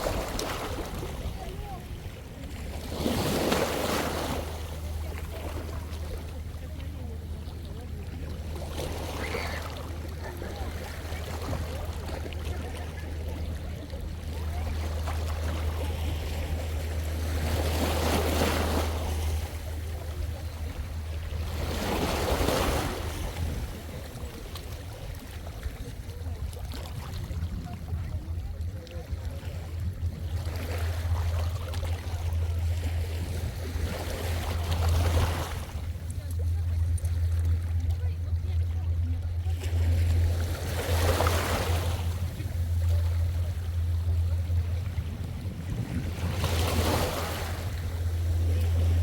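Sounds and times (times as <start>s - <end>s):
small waves washing onto shore: 0.0s - 49.0s
wind rumble on microphone: 0.0s - 49.0s.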